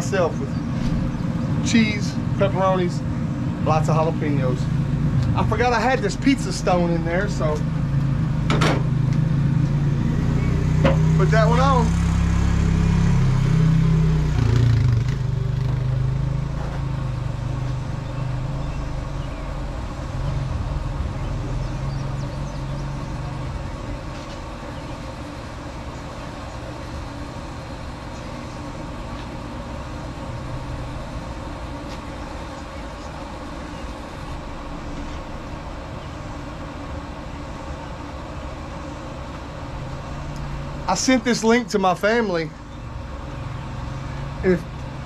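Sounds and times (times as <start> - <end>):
low engine-like drone: 0.0 - 45.0.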